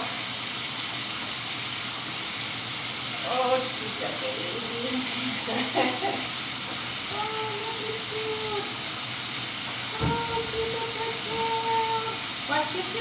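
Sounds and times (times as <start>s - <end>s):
water spraying from sprayer: 0.0s - 13.0s.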